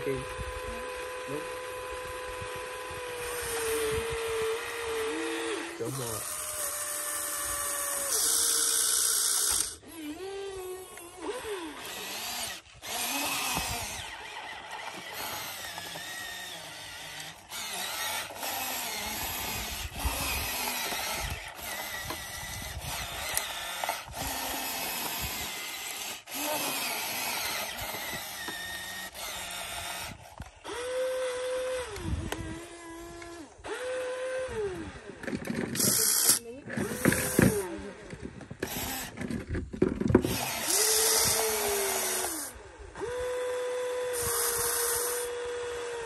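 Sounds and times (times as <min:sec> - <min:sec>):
small electric motors whining: 0:00.0 - 0:46.0.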